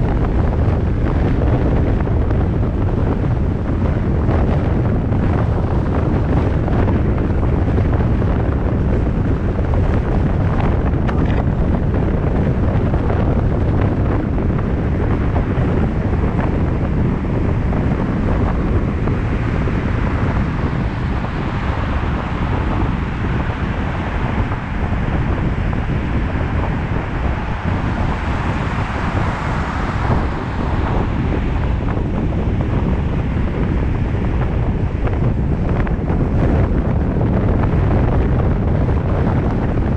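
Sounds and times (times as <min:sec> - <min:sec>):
car road and tyre noise: 0:00.0 - 0:39.9
wind buffeting microphone: 0:00.0 - 0:39.9.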